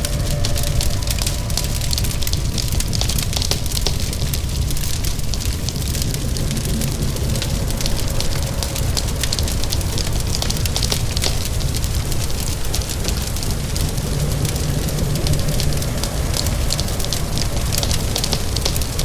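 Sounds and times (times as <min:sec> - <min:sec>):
low rumble: 0:00.0 - 0:19.0
rain hissing: 0:00.0 - 0:19.0
wood fire crackling and popping: 0:00.0 - 0:19.0.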